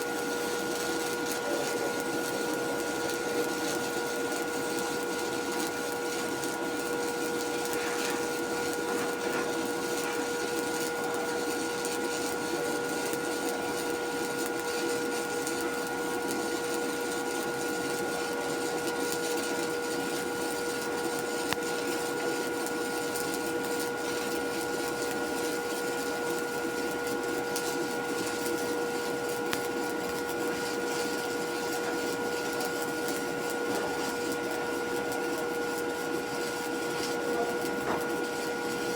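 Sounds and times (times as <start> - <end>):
motor humming with whining tones: 0.0 - 38.9.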